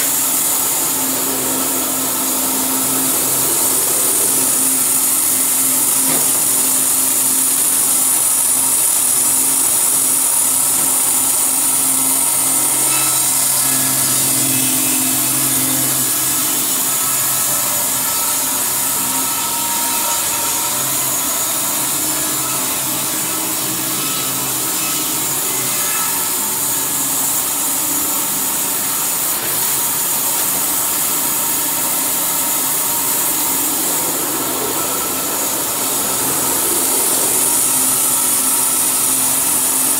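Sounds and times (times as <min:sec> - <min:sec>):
saw blade cutting wood: 0:00.0 - 0:39.9.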